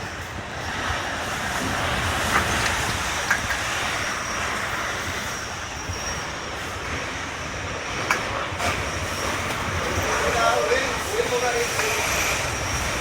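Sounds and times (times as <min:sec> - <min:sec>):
wind roaring: 0:00.0 - 0:13.0.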